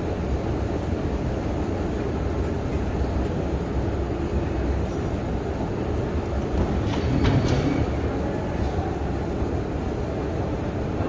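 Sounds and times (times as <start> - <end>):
escalator rumble and hum: 0.0 - 11.0.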